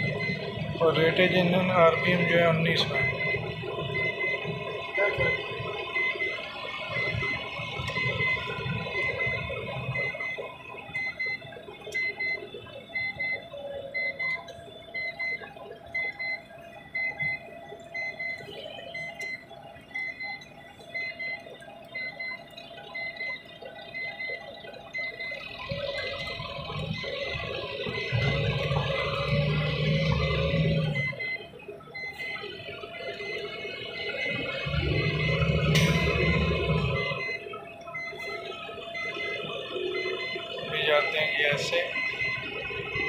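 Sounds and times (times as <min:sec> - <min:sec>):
high electronic warning beep: 0:00.0 - 0:43.0.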